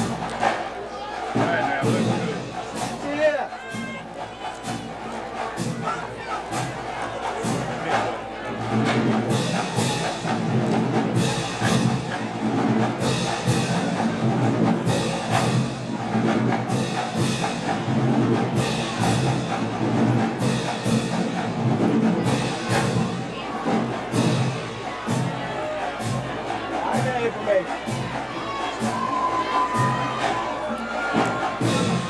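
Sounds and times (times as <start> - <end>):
marching band playing: 0.0 - 32.0.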